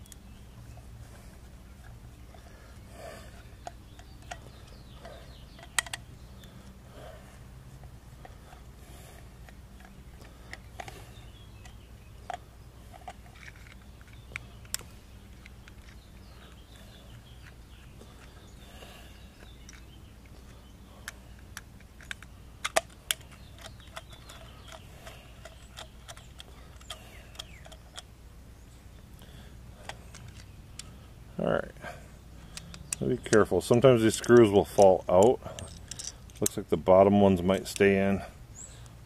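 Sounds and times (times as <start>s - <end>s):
faint steady background noise: 0.0s - 39.0s.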